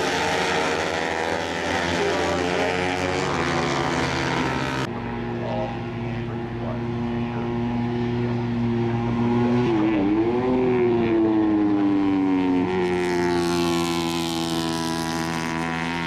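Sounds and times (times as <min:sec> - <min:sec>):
racing motorcycle engines passing: 0:00.0 - 0:16.0.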